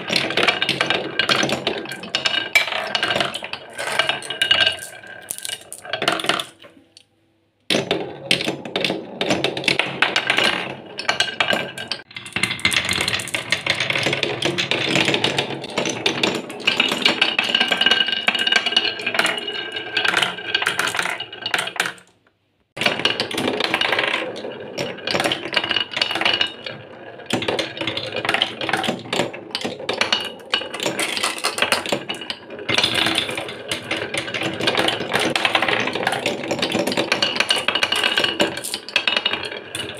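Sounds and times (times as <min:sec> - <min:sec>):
glass marbles rolling and clacking: 0:00.0 - 0:07.0, 0:07.7 - 0:22.1, 0:22.8 - 0:39.9.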